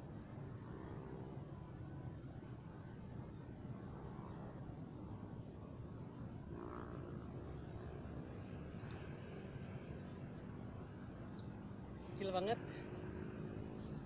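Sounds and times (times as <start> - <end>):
insects buzzing: 0.0 - 14.0
low steady rumble: 0.0 - 14.0.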